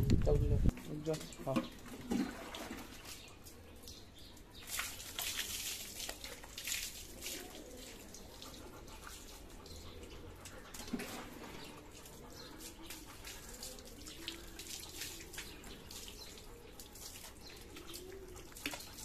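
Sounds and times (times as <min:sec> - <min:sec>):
brush scrubbing wet dog coat: 0:02.3 - 0:19.0.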